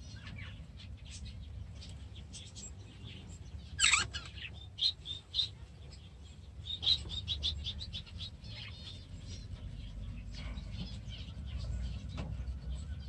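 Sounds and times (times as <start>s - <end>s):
budgerigars chirping: 0.1s - 13.0s.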